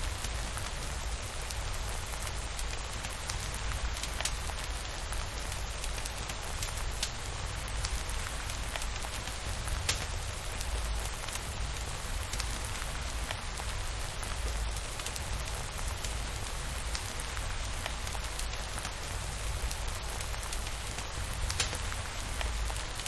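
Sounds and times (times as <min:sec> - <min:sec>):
steady rainfall: 0:00.0 - 0:23.0
rain drop ticks: 0:00.1 - 0:23.0.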